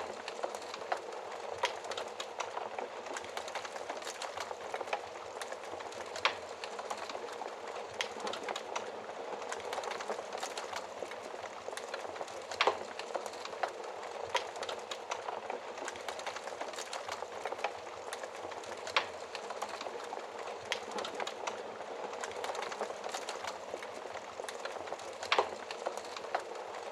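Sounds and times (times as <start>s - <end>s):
fire crackling in fireplace: 0.0s - 26.9s.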